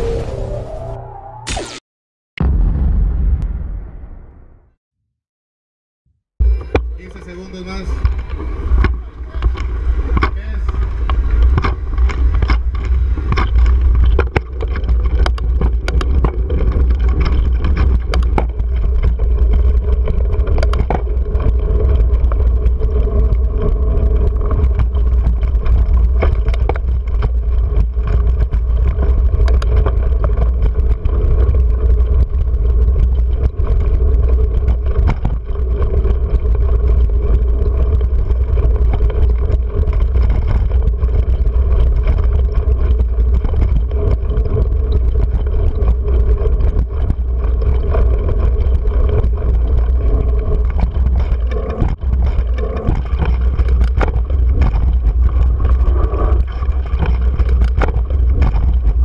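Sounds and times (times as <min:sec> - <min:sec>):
wind rumble on microphone: 0:06.4 - 0:59.0.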